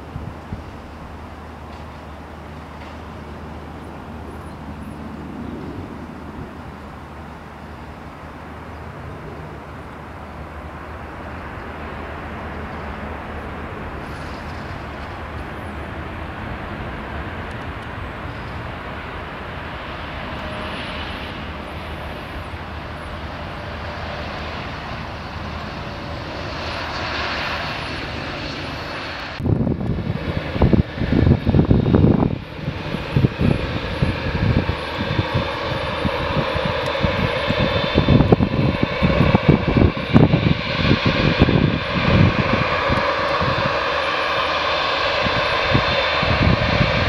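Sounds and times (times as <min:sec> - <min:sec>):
jet engines rumbling: 0:00.0 - 0:47.0
wind buffeting microphone: 0:00.0 - 0:47.0.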